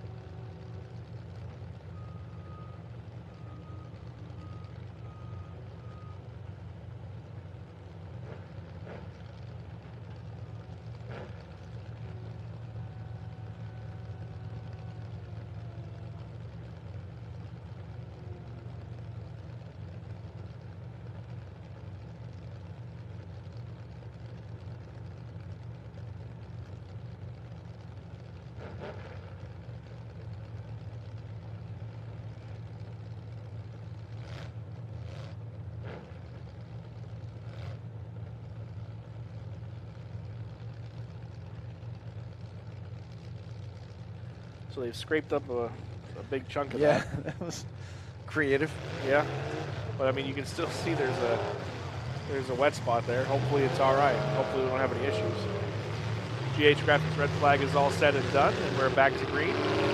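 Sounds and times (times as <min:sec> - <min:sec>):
truck engines idling: 0:00.0 - 0:59.9.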